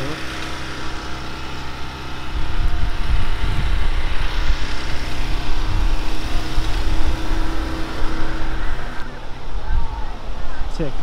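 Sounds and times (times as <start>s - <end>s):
engine humming: 0.0s - 11.0s
heavy low rumble: 0.0s - 11.0s.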